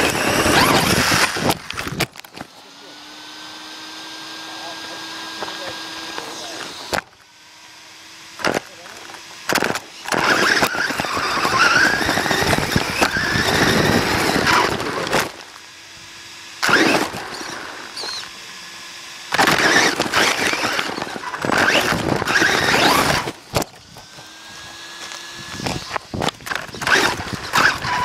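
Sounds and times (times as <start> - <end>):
toy truck motor whining: 0.0 - 28.0.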